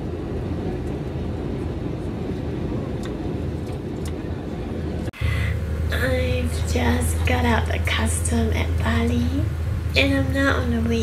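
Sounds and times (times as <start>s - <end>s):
airplane cabin noise: 0.0s - 11.0s.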